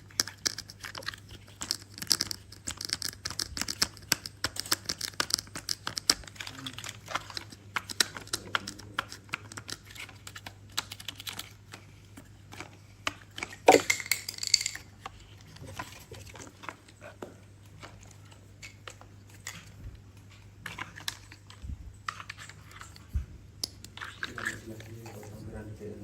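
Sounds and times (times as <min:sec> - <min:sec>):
toy parts clicking and clacking: 0:00.0 - 0:11.9, 0:12.5 - 0:16.8, 0:17.8 - 0:25.3.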